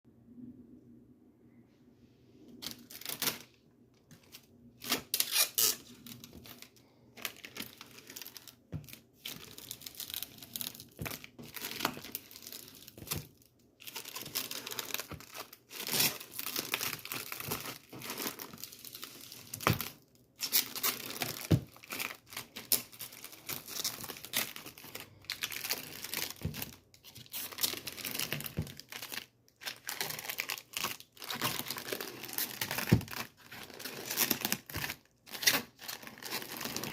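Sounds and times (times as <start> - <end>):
crinkling and crackling: 2.5 - 36.9.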